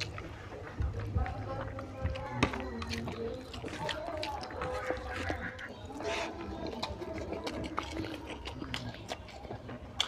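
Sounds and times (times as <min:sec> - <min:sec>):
wet chewing and lip smacking: 0:00.0 - 0:10.0.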